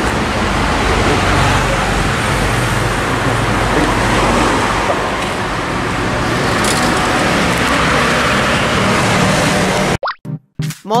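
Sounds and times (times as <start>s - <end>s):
motor vehicle engine hum: 0.0s - 10.0s.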